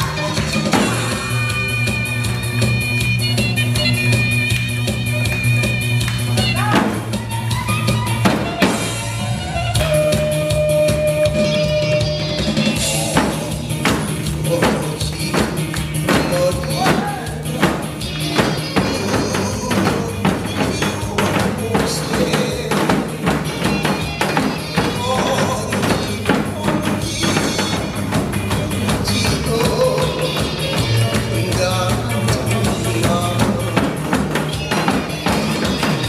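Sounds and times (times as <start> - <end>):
backing music with steady beat: 0.0 - 36.0.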